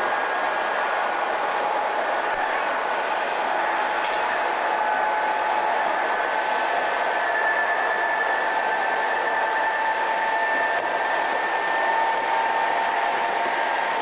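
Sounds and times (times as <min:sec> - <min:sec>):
electric train running: 0:00.0 - 0:14.0
two-note motor whine: 0:00.0 - 0:14.0.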